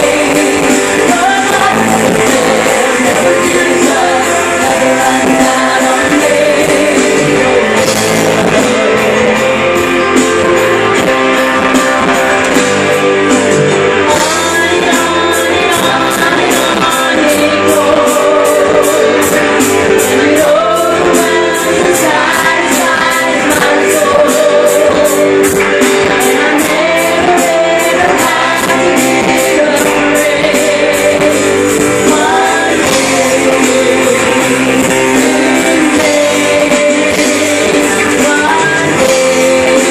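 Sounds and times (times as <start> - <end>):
woman singing: 0.0 - 10.2, 14.0 - 39.9
drums: 0.0 - 39.9
guitar: 0.0 - 39.9
keyboard: 0.0 - 39.9.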